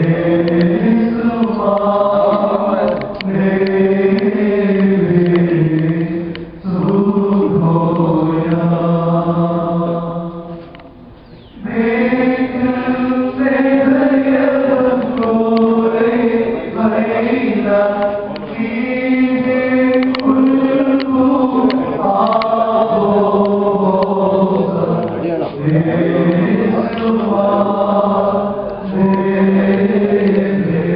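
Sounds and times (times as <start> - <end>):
group chanting a hymn: 0.0 - 30.9.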